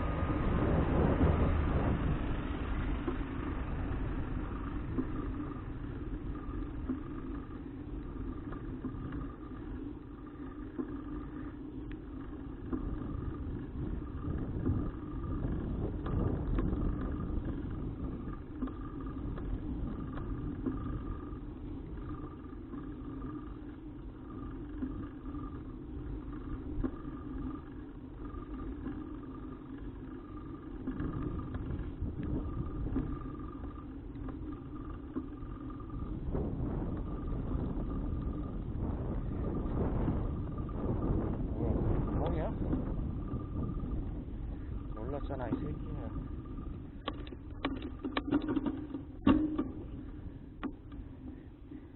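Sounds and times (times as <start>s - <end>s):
road rumble: 0.0s - 51.9s
wind: 0.0s - 51.9s.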